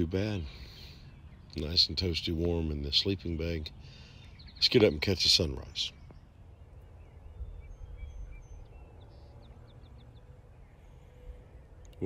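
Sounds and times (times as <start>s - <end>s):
faint distant birds calling: 0.0s - 12.0s
low outdoor rumble: 0.0s - 12.0s.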